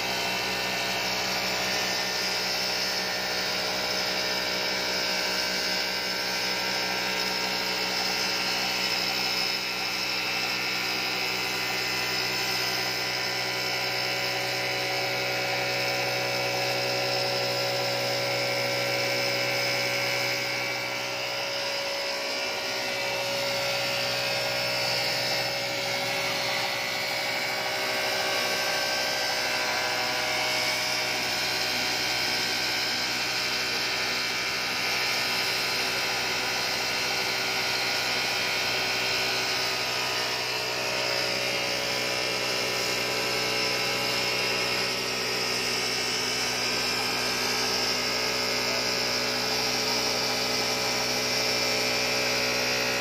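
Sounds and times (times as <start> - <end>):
machine humming and whining: 0.0 - 53.0.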